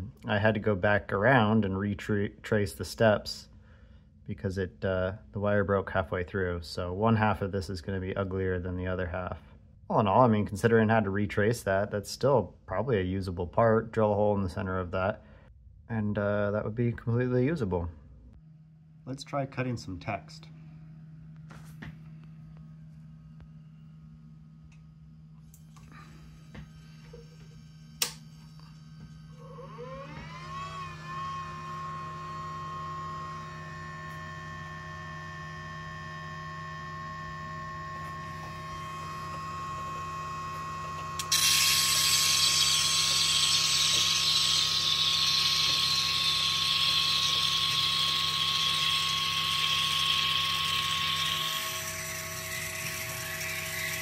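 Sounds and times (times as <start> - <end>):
motor whine over low hum: 0.0 - 54.0.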